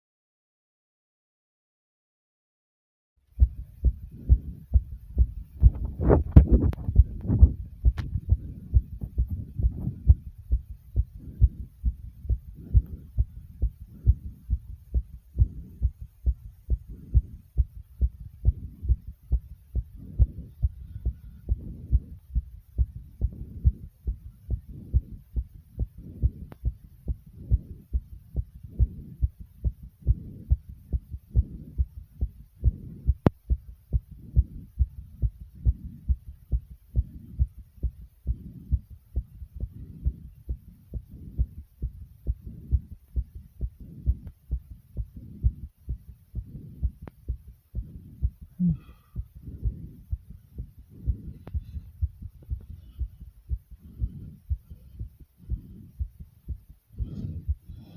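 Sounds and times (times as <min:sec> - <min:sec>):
fast heartbeat pounding: 0:03.3 - 0:57.9.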